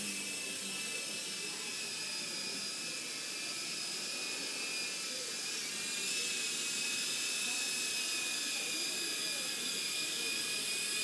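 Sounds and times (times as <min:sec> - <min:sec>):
toy helicopter motor whine: 0:00.0 - 0:11.0.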